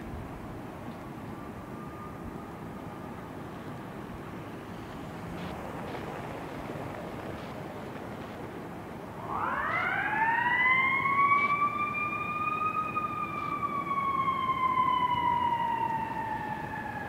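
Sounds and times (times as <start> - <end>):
fire truck siren wailing: 0.9 - 17.0.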